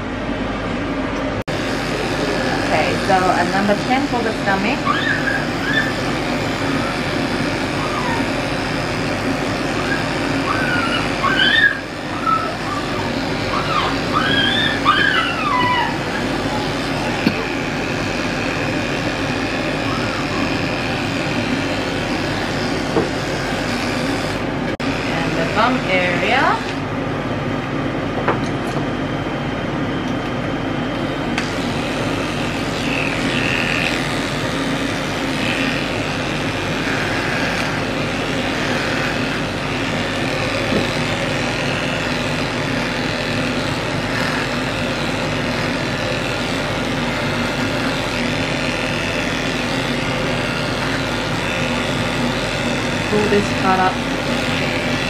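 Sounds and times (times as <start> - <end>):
electric clippers running: 1.4 - 27.0, 30.0 - 55.0.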